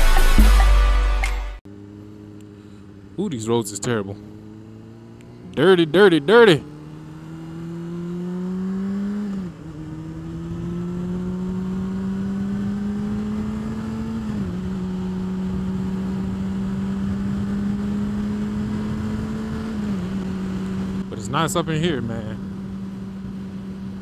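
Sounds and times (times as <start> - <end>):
motorcycle engine accelerating: 1.7 - 24.0.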